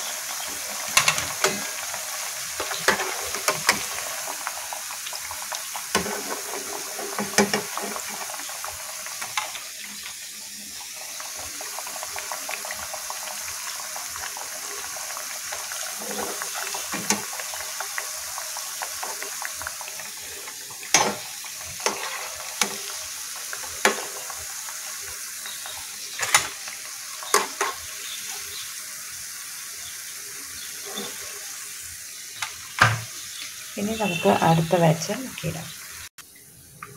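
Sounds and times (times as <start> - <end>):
fritters sizzling in hot oil: 0.0 - 36.9.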